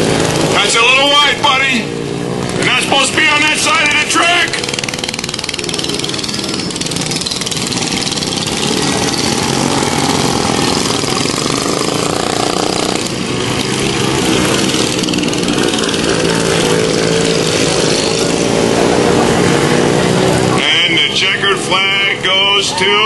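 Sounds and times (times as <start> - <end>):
mini bike engines buzzing: 0.0 - 23.0.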